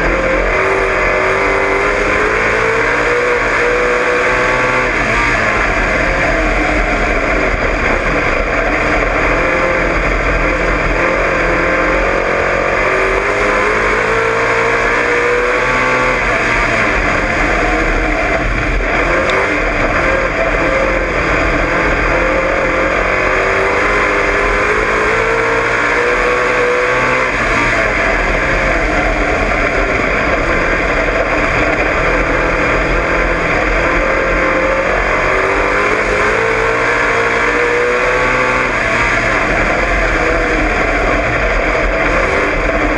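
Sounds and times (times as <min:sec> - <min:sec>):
race car engine accelerating: 0:00.0 - 0:42.9
rushing noise in cockpit: 0:00.0 - 0:42.9.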